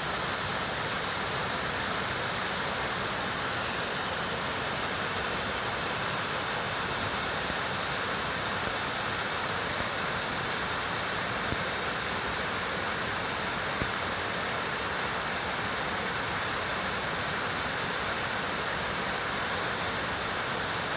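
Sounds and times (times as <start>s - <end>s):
mountain stream rushing: 0.0s - 20.9s.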